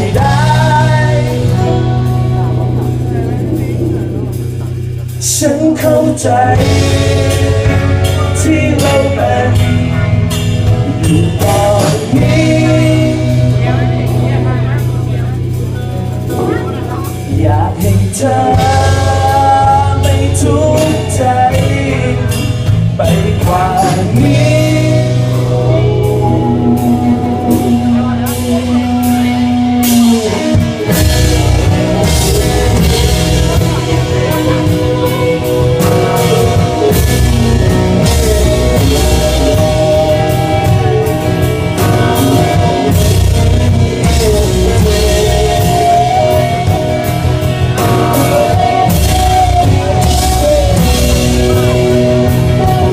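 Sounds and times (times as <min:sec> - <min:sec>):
person singing: 0:00.0 - 0:52.9
rock band playing live: 0:00.0 - 0:52.9.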